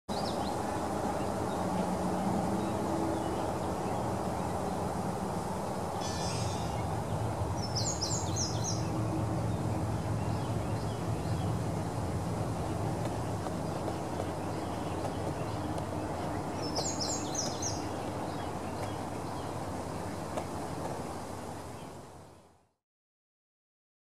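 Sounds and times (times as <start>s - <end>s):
low background noise: 0.1s - 22.8s.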